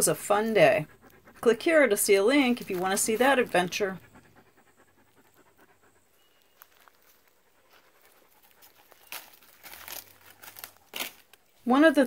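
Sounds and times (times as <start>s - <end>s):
dog panting: 0.0s - 10.9s.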